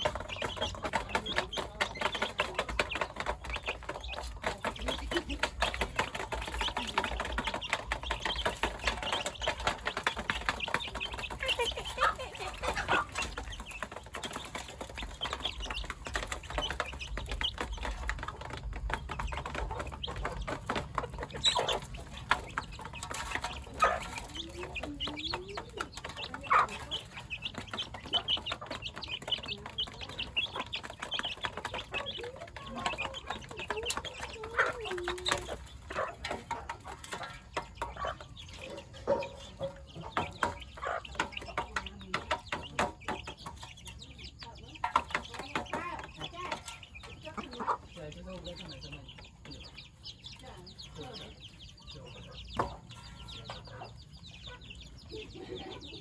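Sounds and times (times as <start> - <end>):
chickens clucking: 0.0 - 56.0
small knocks and scratches: 0.0 - 56.0.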